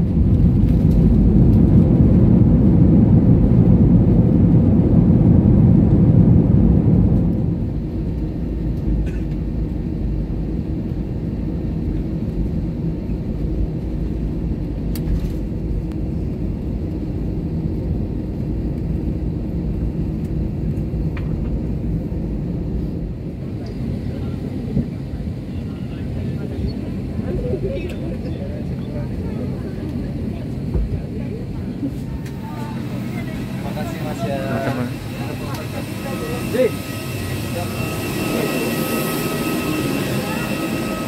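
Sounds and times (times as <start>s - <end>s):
plane engine hum: 0.0s - 41.0s.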